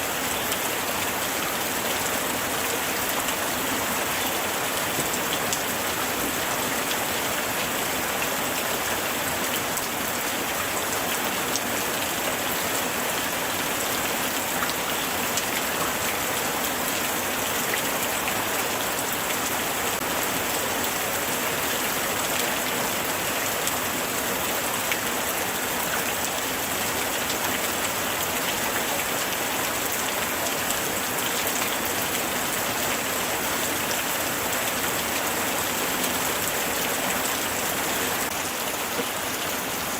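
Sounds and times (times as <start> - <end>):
light rain falling: 0.0 - 39.9
raindrops ticking on surfaces: 0.0 - 39.9.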